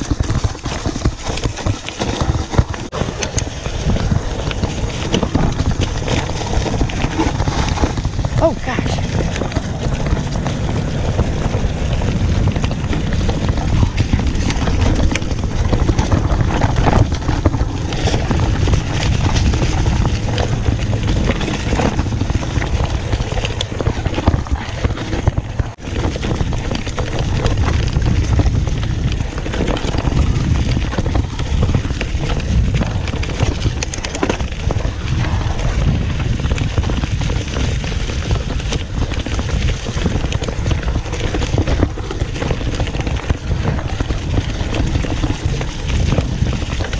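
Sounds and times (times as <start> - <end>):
bike rattling and knocking: 0.0 - 46.9
tyres rumbling on dirt: 0.0 - 46.9
wind on microphone: 0.0 - 46.9.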